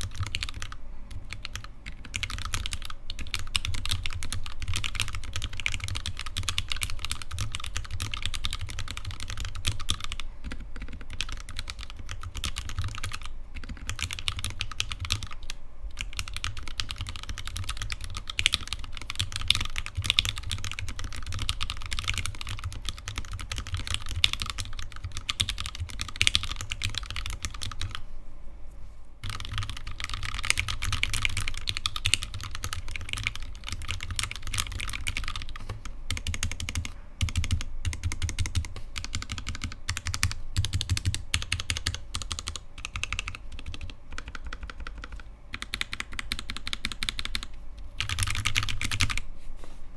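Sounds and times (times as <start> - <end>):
mechanical keyboard typing: 0.0 - 28.0, 29.2 - 49.2.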